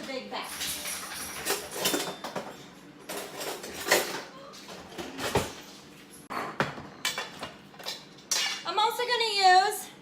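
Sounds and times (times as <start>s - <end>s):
dishes and utensils clattering: 0.0s - 8.7s.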